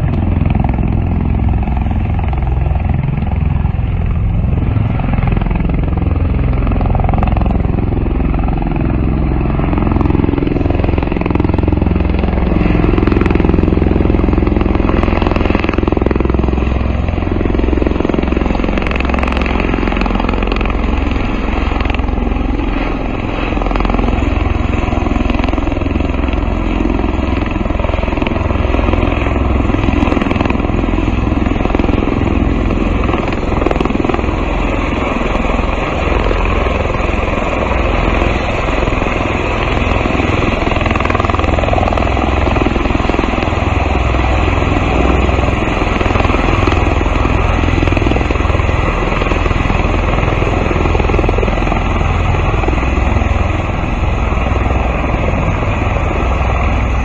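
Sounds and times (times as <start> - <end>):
turboshaft engines droning: 0.0 - 57.0.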